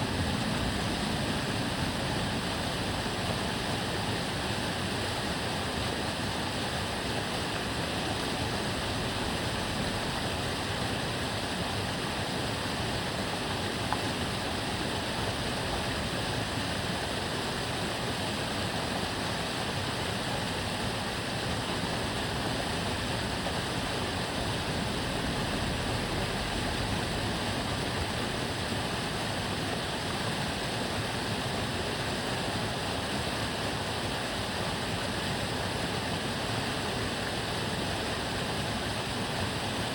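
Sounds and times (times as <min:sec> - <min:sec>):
water rushing and babbling: 0:00.0 - 0:39.9.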